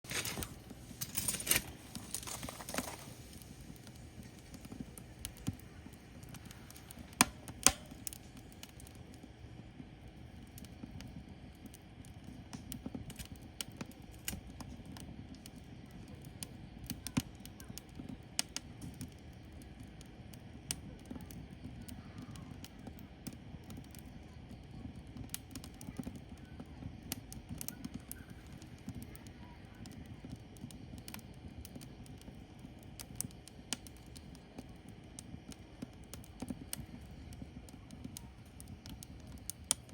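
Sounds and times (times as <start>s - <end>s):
firewood crackling and popping: 0.0s - 39.9s
rumble of flames: 0.0s - 39.9s.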